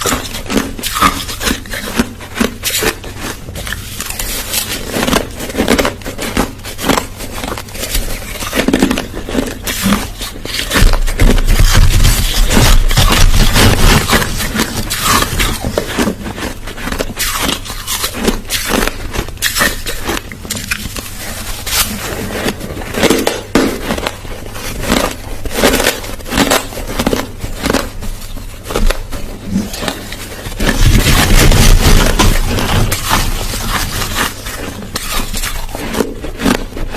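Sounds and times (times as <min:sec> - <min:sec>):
ice being chewed: 0:00.0 - 0:36.9.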